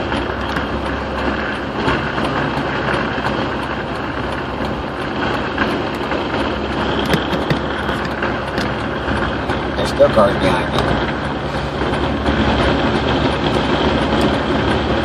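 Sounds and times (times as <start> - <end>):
vehicle cabin road rumble: 0.0 - 15.0.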